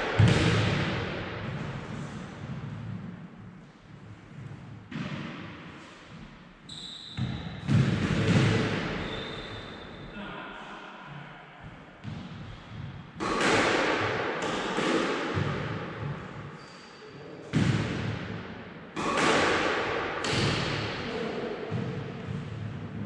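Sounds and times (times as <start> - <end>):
squash ball hitting rackets and walls: 0.0 - 10.0, 11.6 - 23.0.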